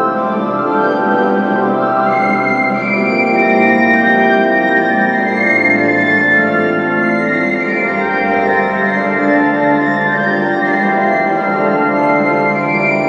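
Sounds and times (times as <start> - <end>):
sustained organ chords: 0.0 - 13.0.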